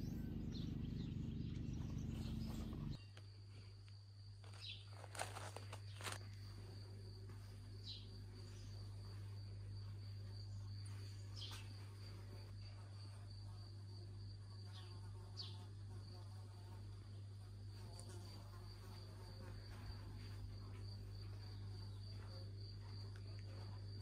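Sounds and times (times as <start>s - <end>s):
steady low hum: 0.0s - 24.0s
crickets chirring: 1.6s - 24.0s.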